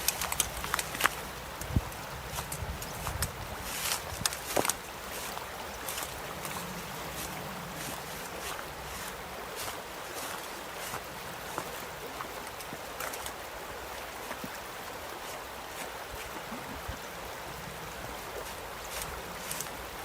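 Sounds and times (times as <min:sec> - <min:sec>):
river water flowing: 0:00.0 - 0:20.0
small water splashes: 0:00.0 - 0:20.0.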